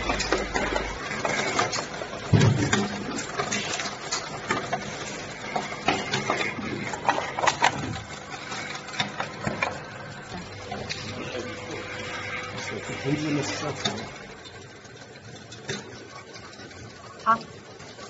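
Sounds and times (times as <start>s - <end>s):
capping machine humming: 0.0s - 18.0s.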